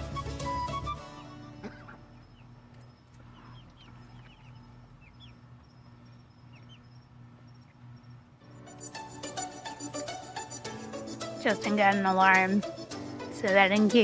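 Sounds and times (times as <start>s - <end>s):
chicks peeping: 0.7s - 14.0s
low steady hum: 1.0s - 14.0s.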